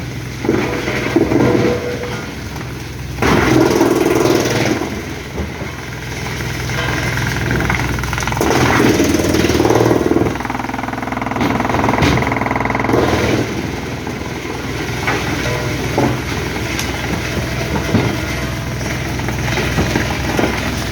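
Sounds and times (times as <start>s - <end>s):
large engine running: 0.0s - 20.9s.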